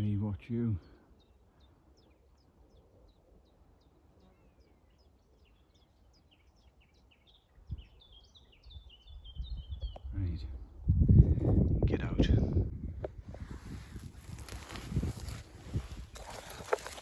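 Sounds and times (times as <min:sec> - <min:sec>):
songbird song: 0:00.0 - 0:17.0.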